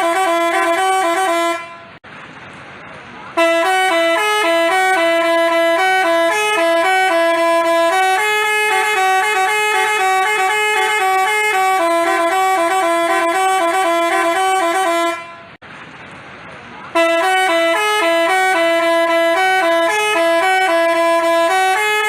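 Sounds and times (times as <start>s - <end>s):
bus horn playing melody: 0.0s - 2.0s, 3.4s - 15.6s, 16.9s - 22.0s.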